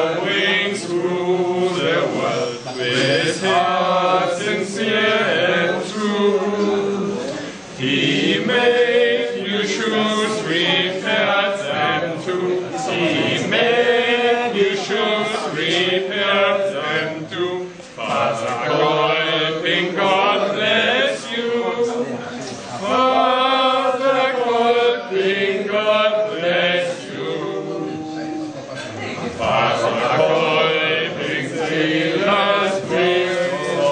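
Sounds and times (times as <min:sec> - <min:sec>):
men singing without instruments: 0:00.0 - 0:28.7, 0:29.4 - 0:33.9.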